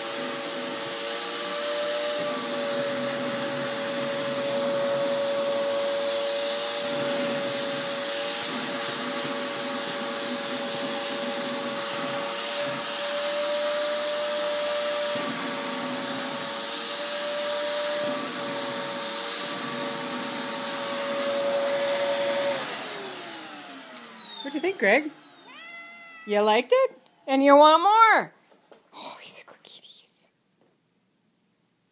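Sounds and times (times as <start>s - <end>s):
vacuum cleaner running: 0.0s - 25.7s.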